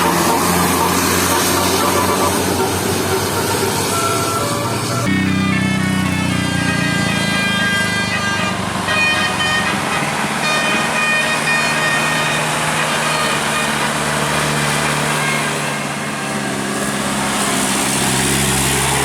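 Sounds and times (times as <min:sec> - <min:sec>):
bus engine droning: 0:00.0 - 0:19.0
bus musical air horn: 0:00.0 - 0:19.0.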